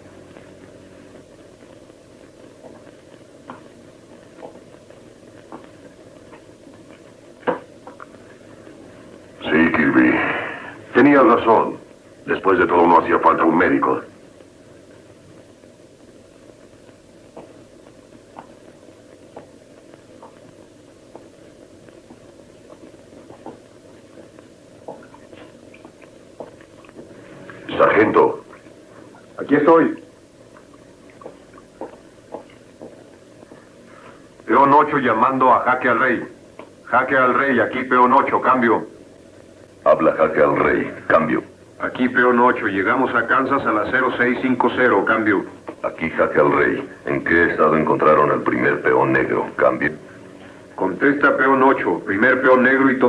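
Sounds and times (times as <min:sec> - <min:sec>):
steady low hiss: 0:00.0 - 0:53.0.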